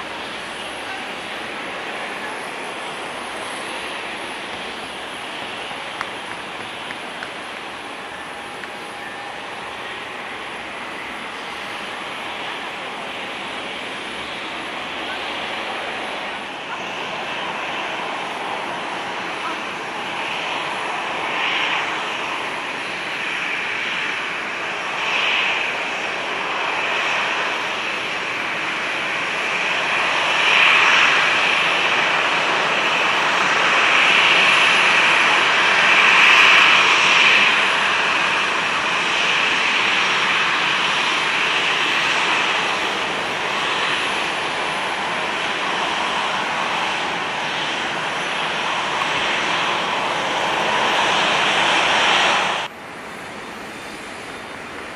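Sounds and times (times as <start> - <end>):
jet engines rushing and whining: 0.0 - 54.9.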